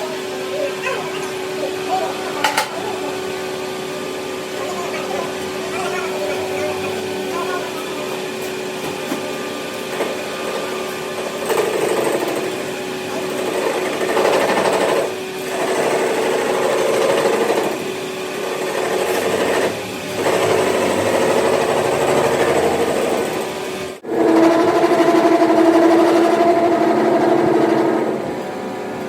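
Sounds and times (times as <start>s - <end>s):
workshop machine motor hum: 0.0s - 29.0s.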